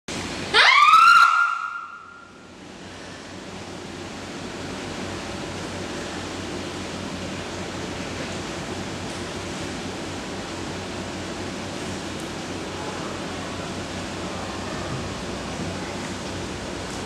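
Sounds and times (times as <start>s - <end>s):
steady wash of noise: 0.1s - 0.6s, 1.6s - 17.0s.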